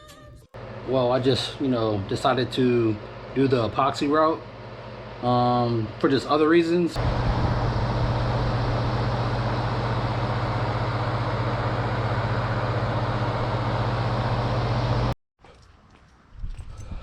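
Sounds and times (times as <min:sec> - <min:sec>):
machine humming: 0:00.6 - 0:15.2.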